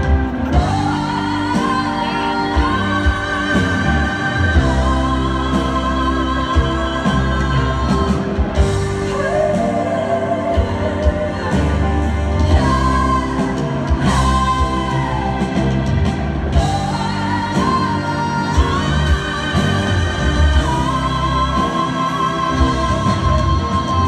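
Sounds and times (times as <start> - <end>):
band playing: 0.0 - 24.0
two women singing a duet: 0.5 - 24.0.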